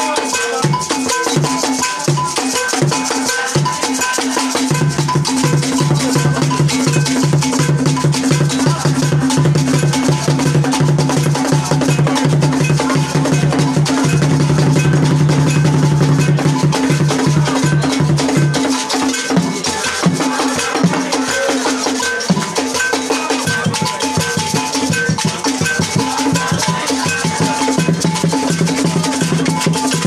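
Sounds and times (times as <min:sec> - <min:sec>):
drums in a fast rhythm: 0:00.0 - 0:30.0.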